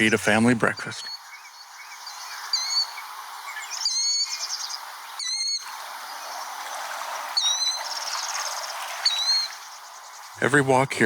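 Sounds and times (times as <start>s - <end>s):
small bird chirping: 0.0s - 6.6s, 7.4s - 10.6s
outdoor ambience hiss: 0.0s - 11.0s.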